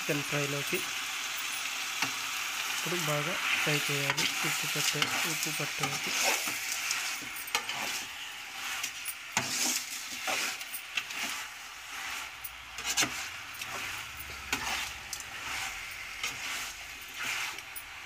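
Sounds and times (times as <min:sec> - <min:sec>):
chicken sizzling in a metal pan: 0:00.0 - 0:18.0
metal spatula scraping a pan: 0:02.0 - 0:18.0.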